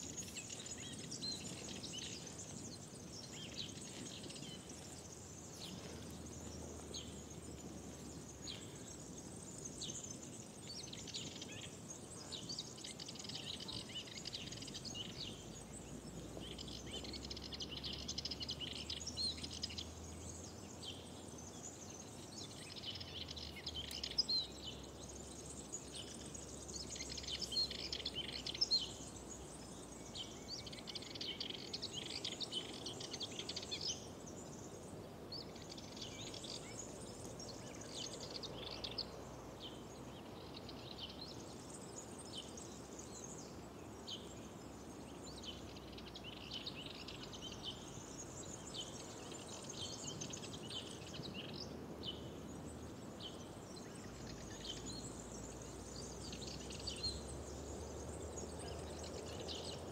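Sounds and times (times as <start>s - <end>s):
faint low background noise: 0.0s - 59.9s
songbirds chirping: 0.0s - 59.9s.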